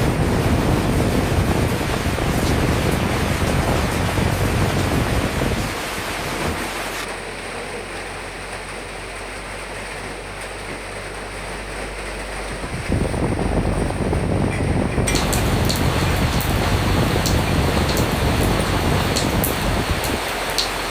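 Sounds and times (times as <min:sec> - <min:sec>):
rain hissing: 0:00.0 - 0:20.9
wind rumble: 0:00.0 - 0:20.9.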